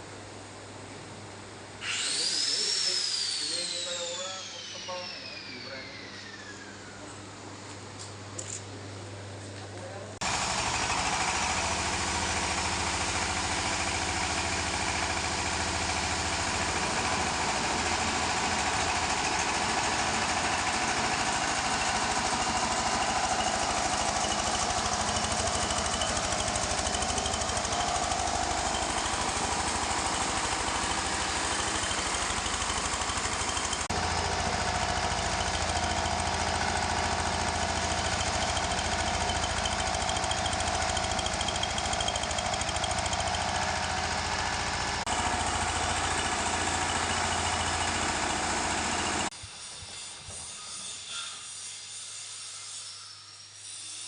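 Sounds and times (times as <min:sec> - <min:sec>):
wood shredder grinding: 0:01.8 - 0:07.1, 0:10.2 - 0:49.3.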